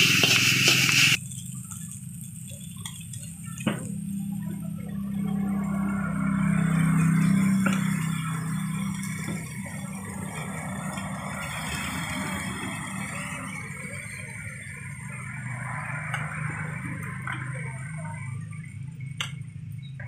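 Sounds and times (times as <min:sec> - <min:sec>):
gas burner roaring: 0:00.0 - 0:20.0
noodles frying in wok: 0:00.0 - 0:20.0.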